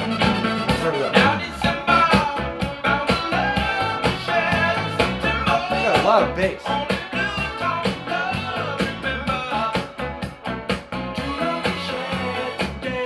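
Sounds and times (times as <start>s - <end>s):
funk disco song with singing: 0.0s - 13.0s.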